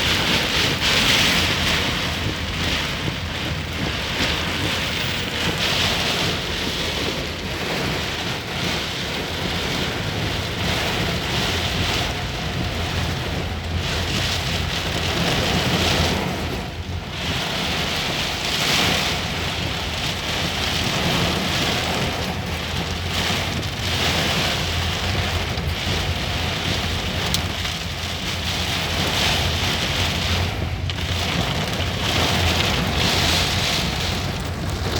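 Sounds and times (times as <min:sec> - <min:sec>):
heavy rain: 0:00.0 - 0:34.9
strong gusting wind: 0:00.0 - 0:34.9.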